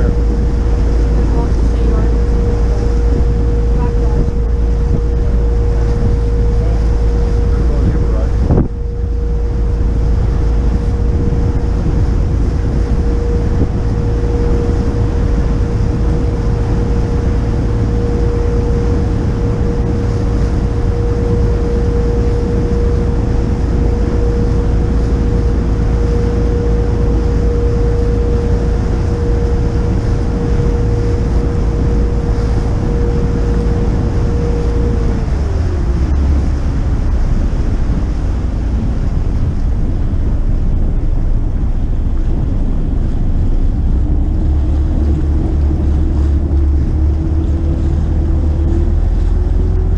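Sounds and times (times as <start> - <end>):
boat engine rumble: 0.0 - 49.9
steady engine whine: 0.0 - 49.9
water noise: 0.0 - 49.9
wind buffeting microphone: 0.0 - 49.9.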